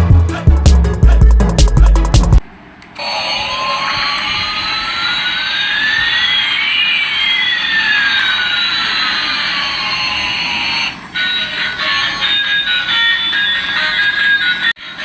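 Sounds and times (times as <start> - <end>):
toy jet engine sound effect: 3.0 - 15.0.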